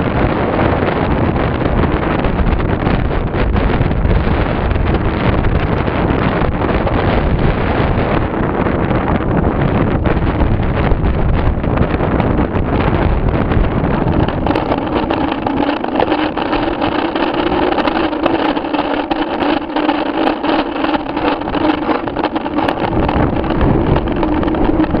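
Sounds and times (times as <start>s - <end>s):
bike rattles and knocks: 0.0s - 25.0s
steady hum: 0.0s - 25.0s
wind buffeting microphone: 0.0s - 25.0s.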